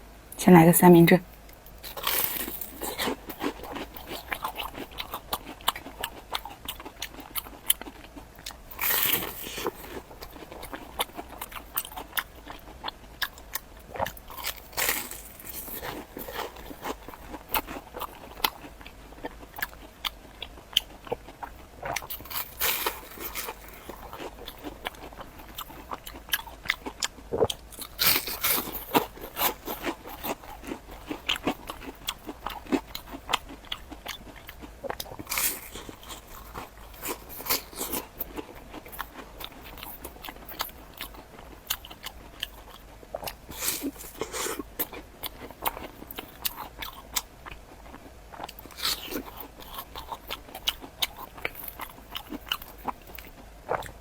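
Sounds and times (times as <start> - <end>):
crunchy bites and chewing: 1.5 - 54.0.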